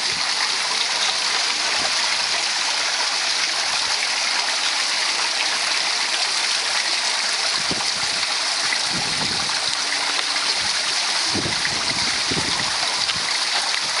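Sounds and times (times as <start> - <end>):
waterfall splashing: 0.0 - 14.0.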